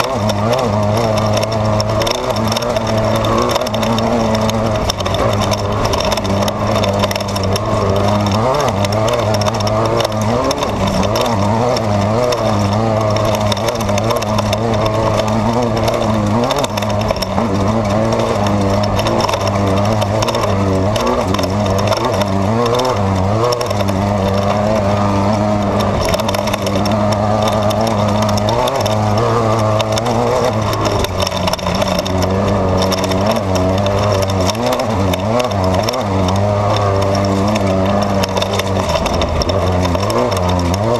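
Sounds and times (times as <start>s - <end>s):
race car engine running: 0.0s - 40.9s
steady ride noise: 0.0s - 40.9s.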